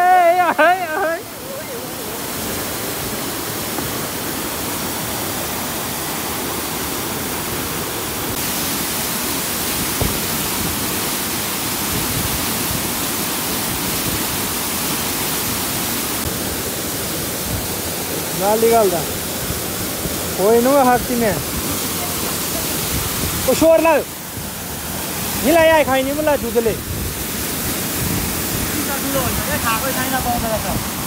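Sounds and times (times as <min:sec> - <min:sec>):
mountain stream rushing: 0:00.0 - 0:31.0.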